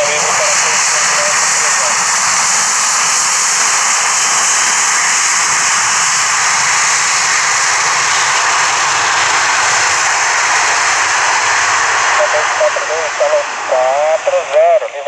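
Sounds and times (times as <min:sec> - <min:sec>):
jet airliner engines running: 0:00.0 - 0:15.0.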